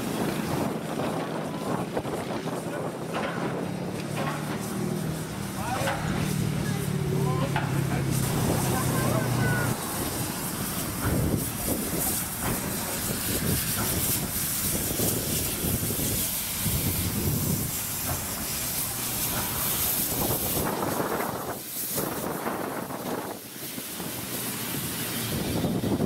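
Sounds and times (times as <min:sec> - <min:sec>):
slow uneven exhaust beats: 0:00.0 - 0:26.0
steam hissing: 0:00.0 - 0:26.0
steam locomotive moving off: 0:00.0 - 0:26.0.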